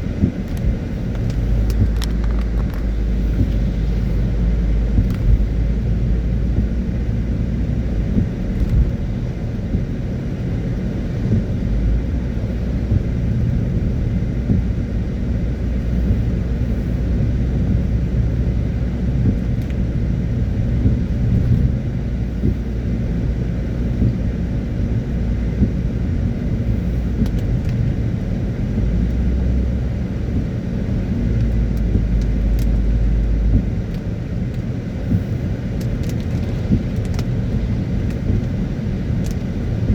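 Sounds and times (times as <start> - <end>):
car on wet road rumble: 0.0 - 39.9.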